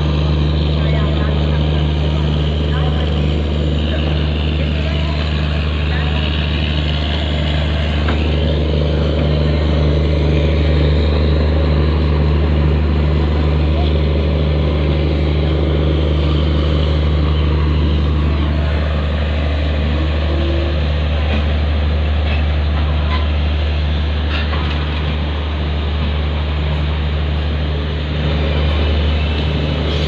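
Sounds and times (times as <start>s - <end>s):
passenger train rumbling: 0.0s - 30.0s.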